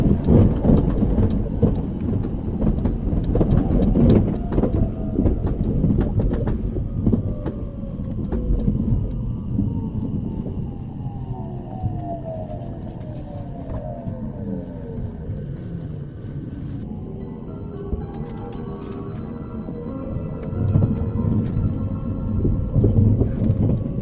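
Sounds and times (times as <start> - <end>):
train rumble: 0.0 - 24.0
wheels clicking on rails: 0.0 - 24.0.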